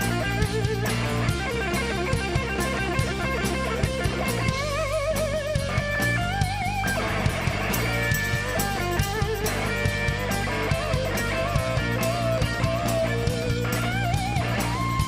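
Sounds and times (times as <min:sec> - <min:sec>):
bass guitar: 0:00.0 - 0:15.0
drum beat: 0:00.0 - 0:15.0
guitar lead with held notes: 0:00.0 - 0:15.0.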